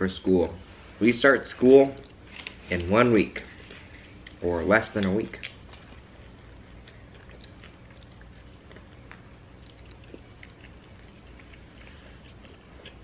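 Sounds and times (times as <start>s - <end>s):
low room hum: 0.0s - 13.0s
person chewing: 2.0s - 4.4s, 5.0s - 13.0s.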